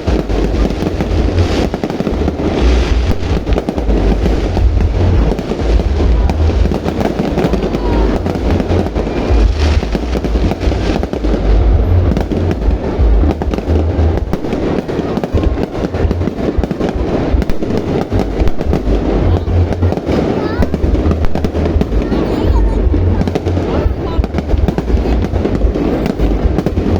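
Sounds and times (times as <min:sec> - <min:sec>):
fireworks booming and crackling: 0:00.0 - 0:26.9.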